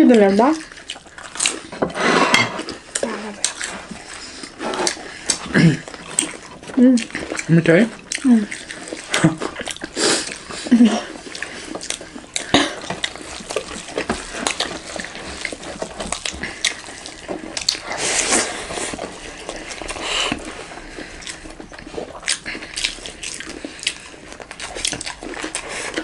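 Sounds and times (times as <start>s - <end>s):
fingers squishing food on metal plates: 0.0s - 26.0s
wet chewing and mouth smacking: 0.0s - 26.0s.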